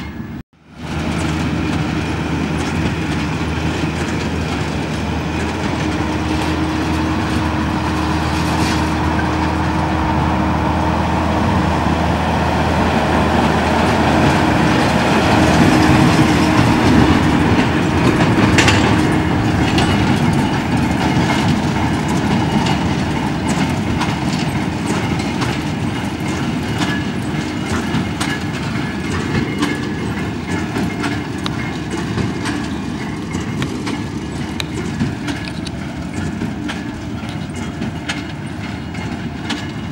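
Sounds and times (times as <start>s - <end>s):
tractor running under load: 0.0s - 39.9s.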